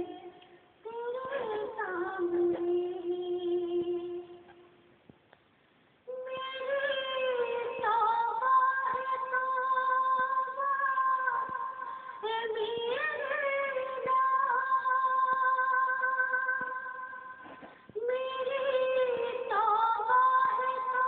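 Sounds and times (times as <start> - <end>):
woman singing unaccompanied: 0.0 - 4.8, 6.1 - 21.0.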